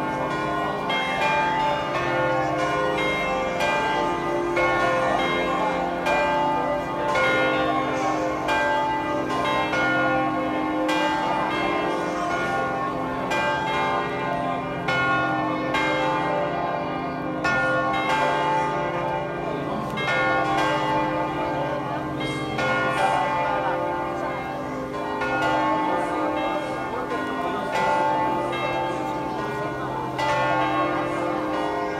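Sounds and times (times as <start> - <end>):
church bells ringing: 0.0 - 31.9.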